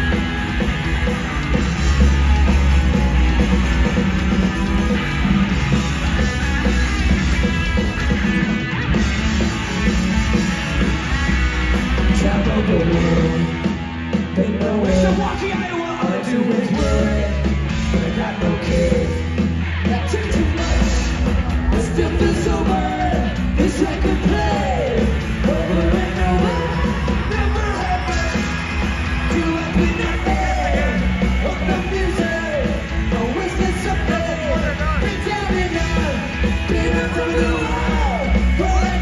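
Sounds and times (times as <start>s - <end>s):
bass guitar: 0.0s - 39.0s
drums: 0.0s - 39.0s
electric guitars: 0.0s - 39.0s.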